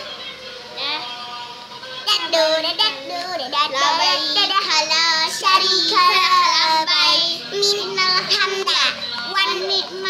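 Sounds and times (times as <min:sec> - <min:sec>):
child singing: 0:00.8 - 0:01.1, 0:02.0 - 0:10.0.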